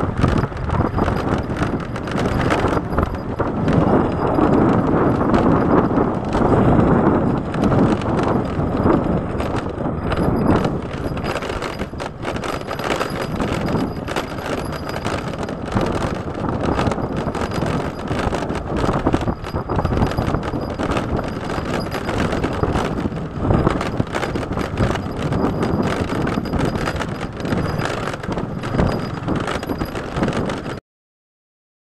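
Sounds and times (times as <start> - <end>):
knocks and rattles: 0.0 - 30.8
scooter engine running: 0.0 - 30.8
wind noise: 0.0 - 30.8.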